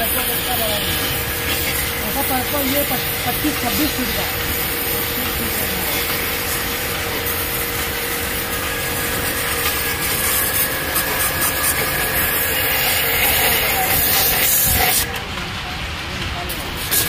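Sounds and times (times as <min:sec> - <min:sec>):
water spray hissing: 0:00.0 - 0:15.1, 0:16.5 - 0:17.0
washer motor humming: 0:00.0 - 0:17.0.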